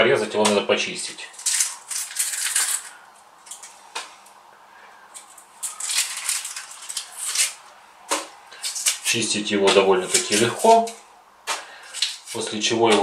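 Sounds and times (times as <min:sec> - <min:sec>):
onion skin crackling: 0:00.3 - 0:04.4, 0:05.1 - 0:13.0.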